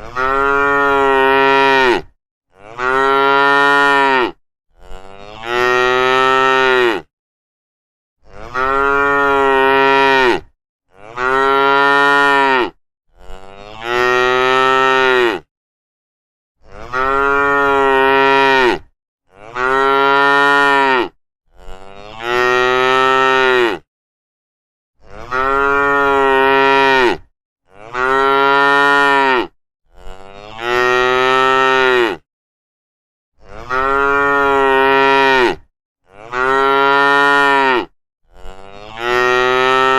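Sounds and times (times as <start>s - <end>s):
cow mooing: 0.0s - 7.1s, 8.2s - 15.5s, 16.7s - 23.9s, 25.0s - 32.2s, 33.4s - 39.9s.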